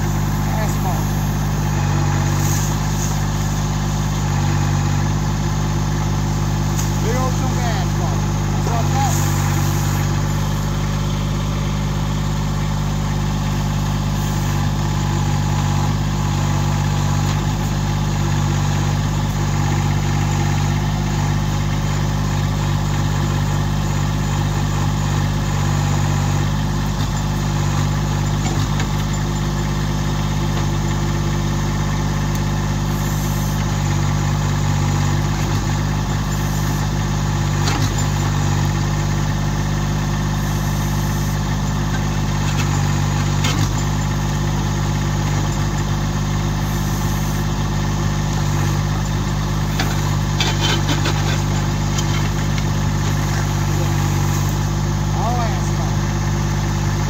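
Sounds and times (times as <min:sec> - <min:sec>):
backhoe digging: 0:00.0 - 0:57.0
tractor diesel engine running: 0:00.0 - 0:57.0.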